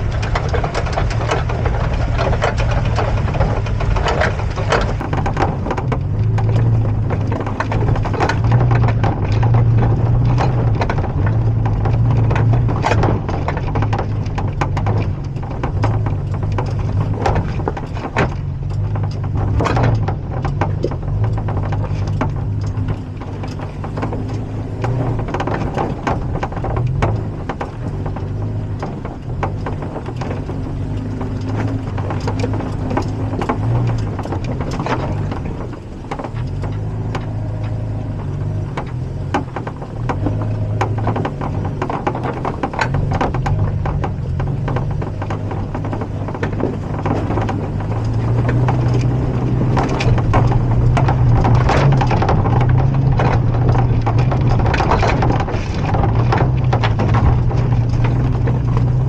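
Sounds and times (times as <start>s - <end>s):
truck engine low hum: 0.0s - 59.0s.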